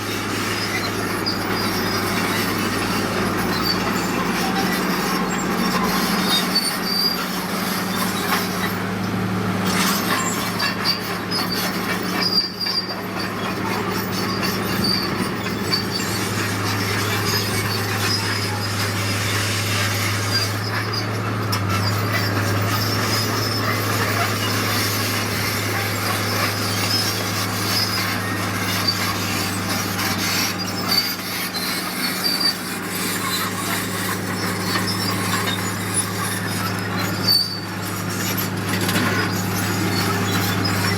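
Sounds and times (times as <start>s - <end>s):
diesel engine running: 0.0s - 40.9s
metallic squealing and clanking: 0.0s - 40.9s.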